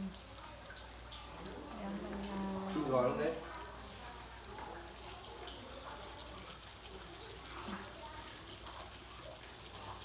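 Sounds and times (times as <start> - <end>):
faint voices: 0.0 - 10.0.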